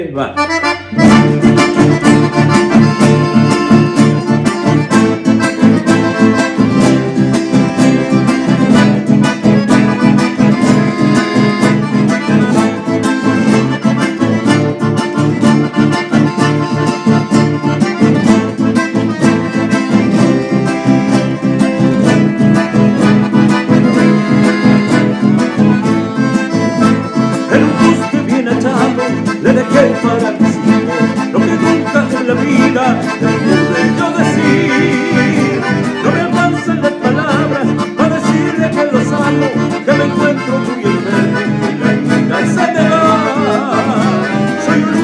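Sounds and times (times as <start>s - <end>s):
accordion: 0.0s - 45.0s
strummed guitar: 0.4s - 45.0s.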